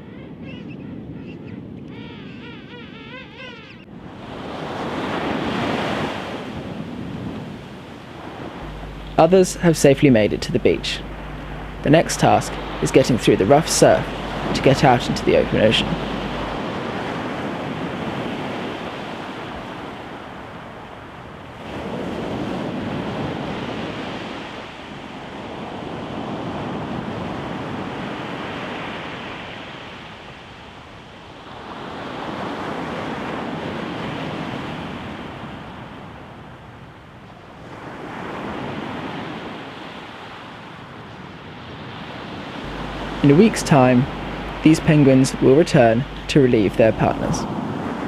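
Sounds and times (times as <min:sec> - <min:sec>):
surf breaking on a beach: 0:03.9 - 0:48.0.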